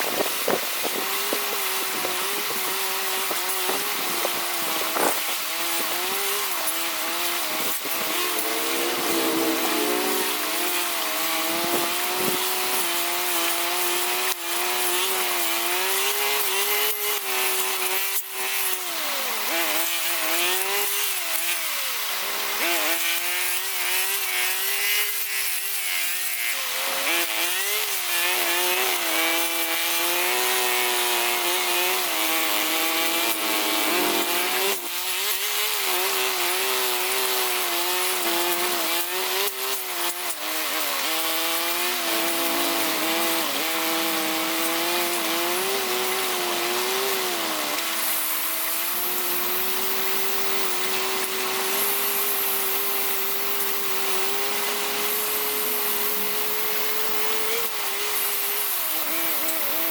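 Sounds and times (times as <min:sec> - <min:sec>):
small petrol cutting tool engine: 0:00.0 - 0:59.9.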